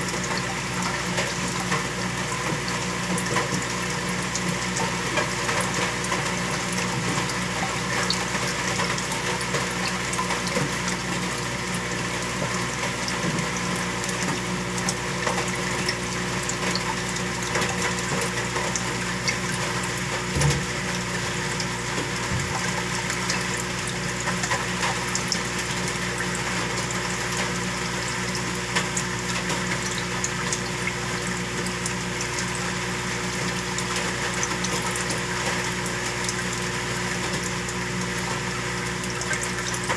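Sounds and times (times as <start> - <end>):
bubbling circulating water: 0.0 - 39.9
water pump humming: 0.0 - 39.9.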